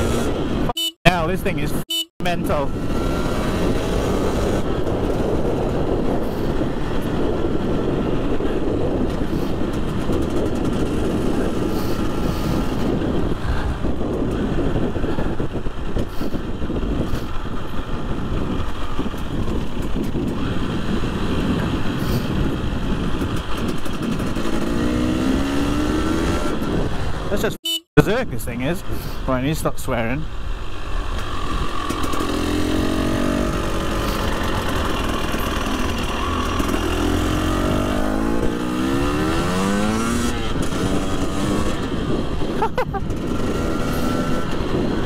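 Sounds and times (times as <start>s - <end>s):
motorcycle engine revving: 0.0s - 0.7s, 2.5s - 15.8s, 18.0s - 27.4s, 30.6s - 45.0s
wind rush on microphone: 0.0s - 0.7s, 1.4s - 45.0s.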